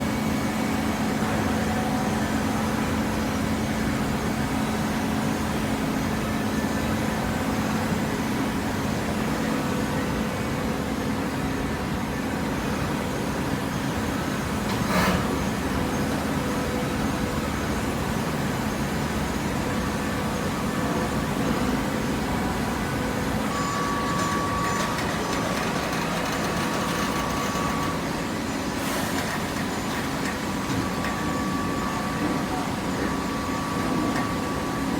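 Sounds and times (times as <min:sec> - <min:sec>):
machinery humming: 0:00.0 - 0:34.9.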